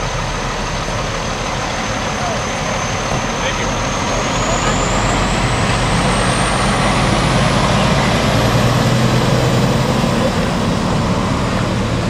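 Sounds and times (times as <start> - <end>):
fire engine driving past: 0.0 - 12.0.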